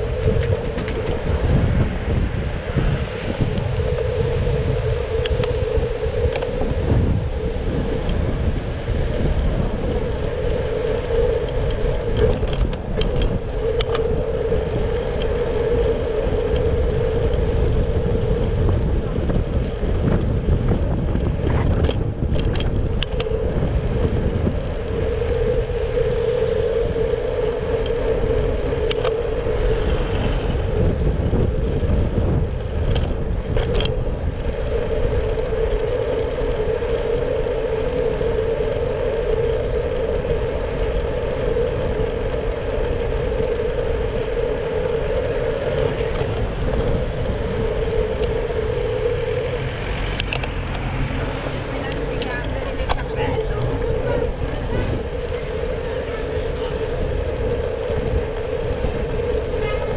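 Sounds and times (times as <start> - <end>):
mid-pitched hum: 0.0 - 59.9
passing traffic: 0.0 - 59.9
wind and road rumble: 0.0 - 59.9
bicycle clicks and rattles: 0.1 - 1.3, 6.2 - 6.7, 10.5 - 59.9.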